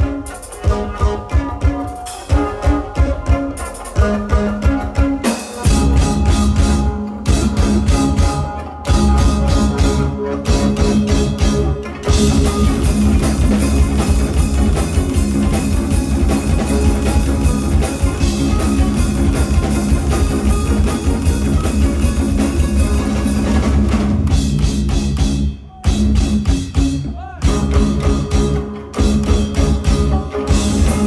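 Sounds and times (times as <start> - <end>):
instrumental rock with shamisens and drums: 0.0 - 31.0.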